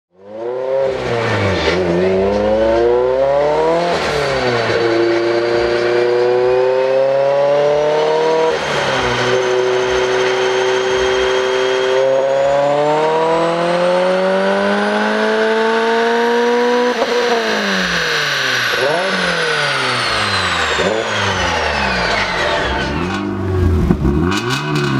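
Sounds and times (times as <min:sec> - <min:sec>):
car engine revving: 0:00.2 - 0:24.9
high turbo whine: 0:00.2 - 0:24.9.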